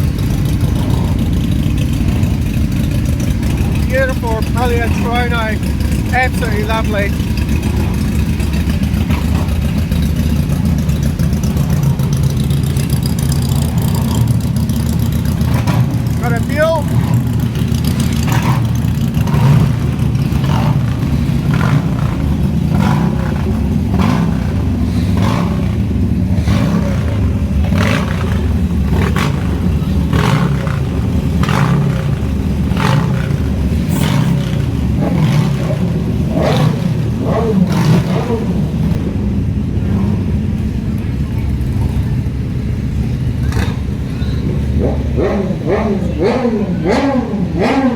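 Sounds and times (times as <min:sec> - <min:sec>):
motorcycle engines rumbling: 0:00.0 - 0:47.9.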